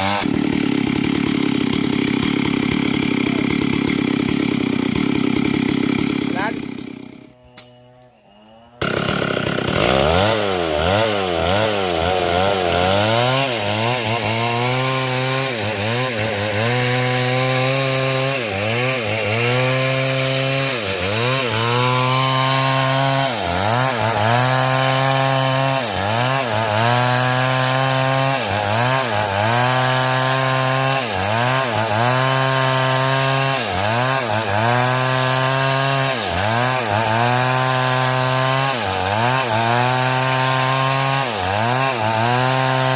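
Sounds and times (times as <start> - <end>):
chainsaw cutting wood: 0.0 - 8.0, 8.8 - 42.9.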